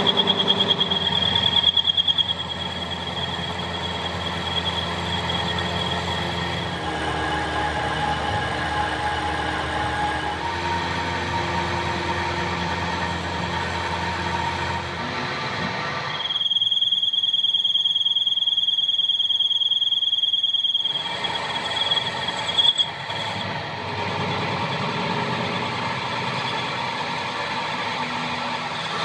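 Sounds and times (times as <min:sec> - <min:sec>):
machinery running: 0:00.0 - 0:16.8, 0:20.8 - 0:29.0
machine high-pitched squeal: 0:00.0 - 0:29.0.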